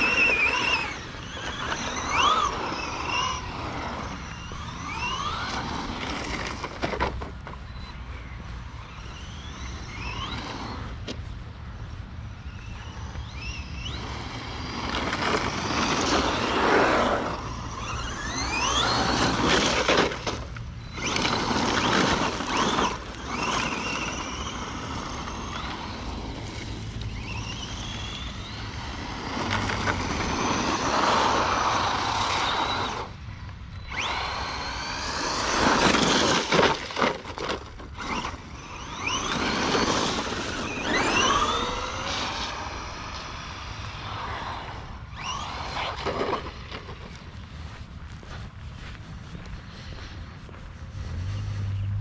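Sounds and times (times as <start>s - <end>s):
electric motor whining: 0.0s - 11.8s, 12.4s - 47.1s
tyres on wet gravel: 0.0s - 52.0s.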